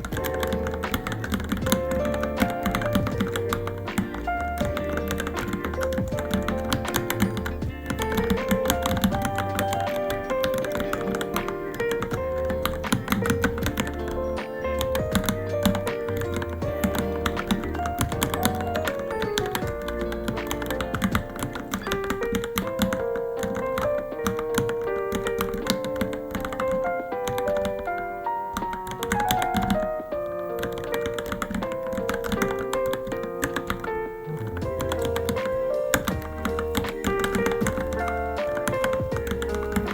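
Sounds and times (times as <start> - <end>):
background music with melody: 0.0 - 39.9
mechanical keyboard typing: 0.0 - 39.9.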